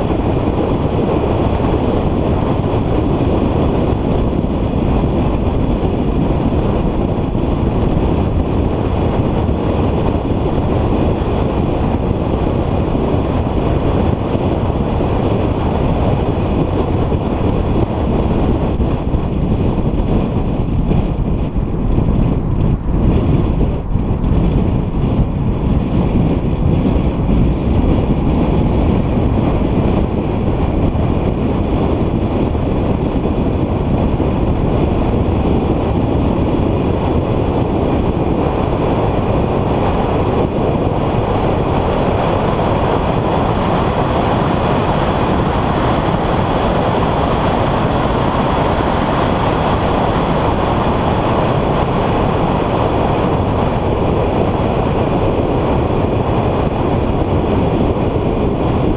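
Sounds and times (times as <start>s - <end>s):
road and engine noise: 0.0s - 58.9s
wind rushing on microphone: 0.0s - 58.9s.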